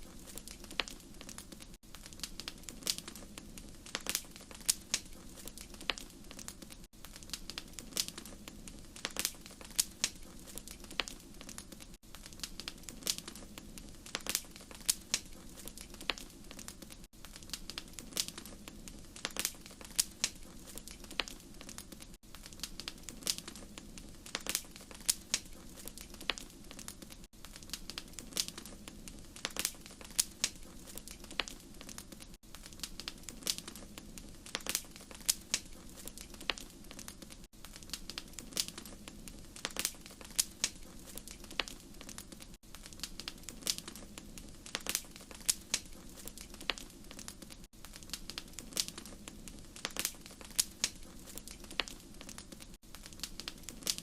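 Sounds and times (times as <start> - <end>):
fire pops and snaps: 0.0 - 54.0
wood fire crackling: 0.0 - 54.0.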